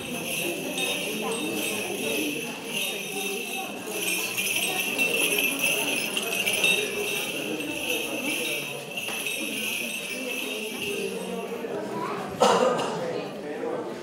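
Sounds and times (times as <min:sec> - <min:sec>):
small bells jingling: 0:00.0 - 0:11.9
low voices murmuring: 0:00.0 - 0:14.0.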